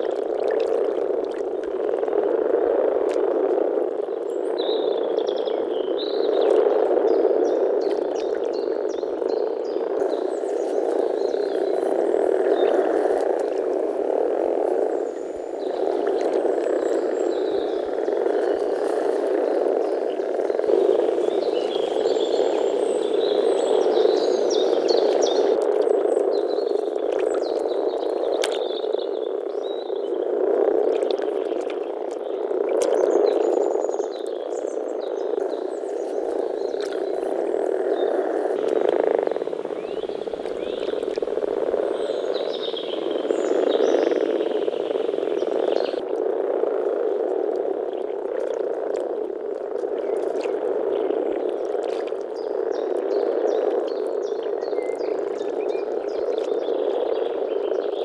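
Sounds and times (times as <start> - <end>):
frogs grumbling chorus: 0.0 - 58.0.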